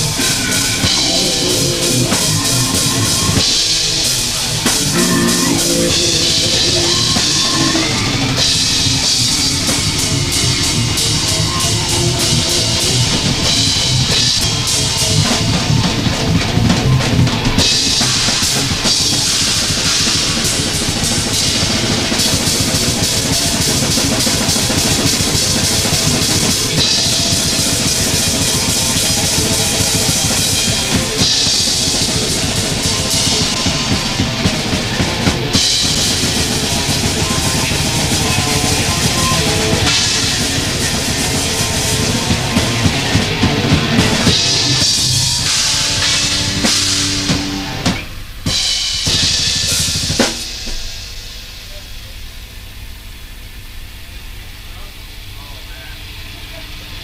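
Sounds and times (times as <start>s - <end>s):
metal band playing: 0.0s - 51.3s
fast drum kit: 0.0s - 52.3s.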